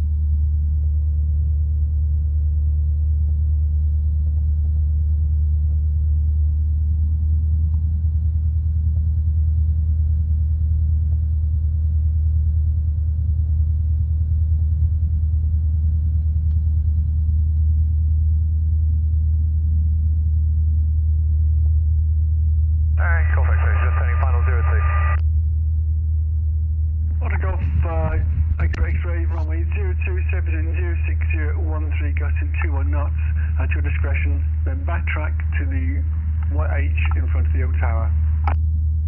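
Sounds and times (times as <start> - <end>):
muffled aircraft engine droning: 0.0 - 39.0.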